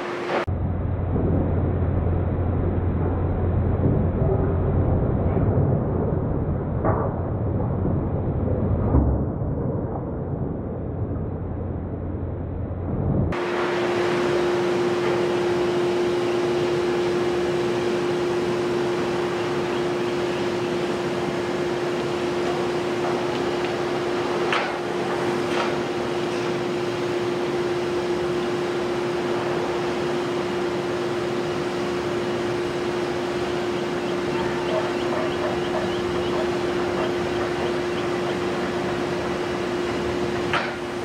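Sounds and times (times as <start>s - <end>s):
excavator engine and hydraulics drone: 0.0s - 7.1s, 11.5s - 41.0s.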